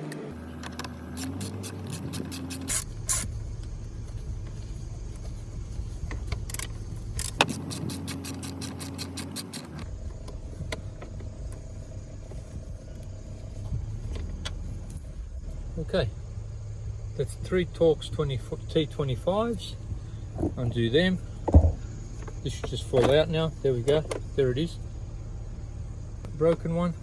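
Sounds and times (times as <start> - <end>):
steady low rumble: 0.4 - 8.9, 9.7 - 27.0.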